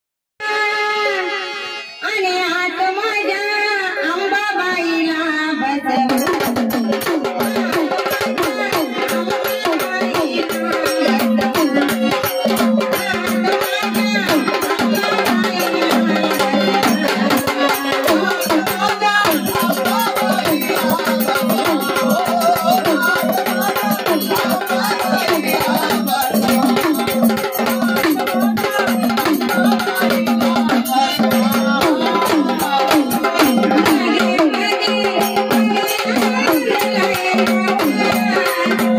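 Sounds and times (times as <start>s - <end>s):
hand drums and rattling percussion: 5.8s - 38.9s.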